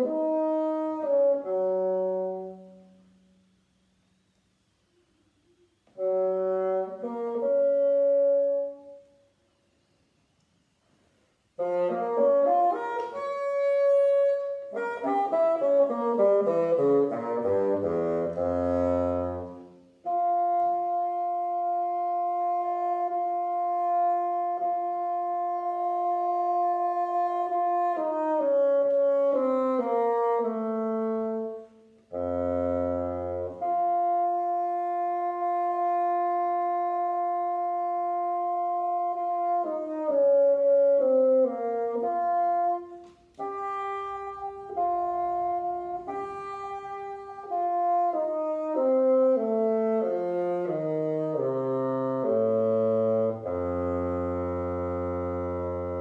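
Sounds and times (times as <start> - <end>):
solo bassoon: 0.0 - 9.9, 11.0 - 56.0.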